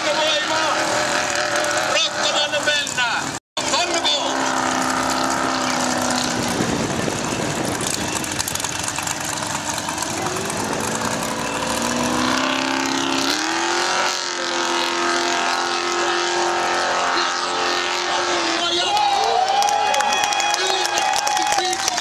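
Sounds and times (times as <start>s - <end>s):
buggy engine at high revs: 0.0s - 22.0s.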